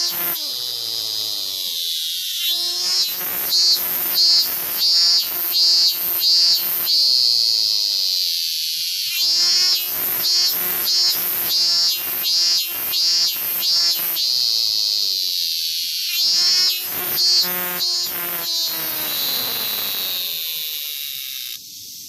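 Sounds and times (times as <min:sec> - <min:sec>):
cicada calling: 0:00.0 - 0:22.0.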